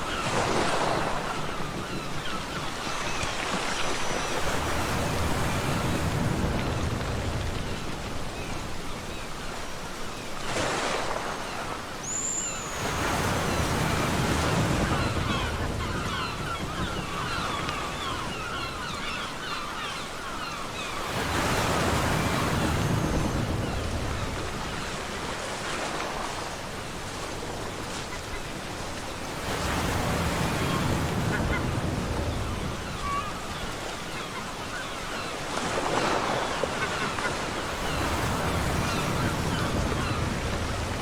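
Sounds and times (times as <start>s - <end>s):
ocean waves breaking: 0.0s - 41.0s.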